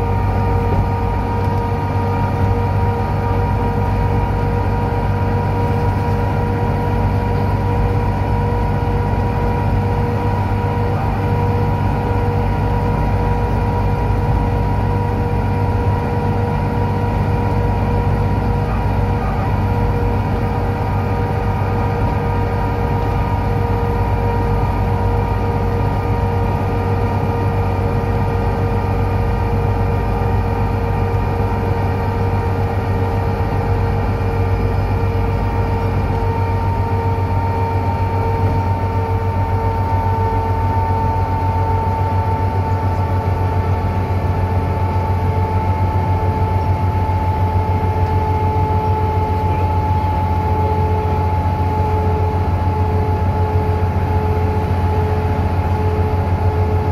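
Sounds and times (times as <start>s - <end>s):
bus engine and road drone: 0.0s - 56.9s
high axle whine: 0.0s - 56.9s.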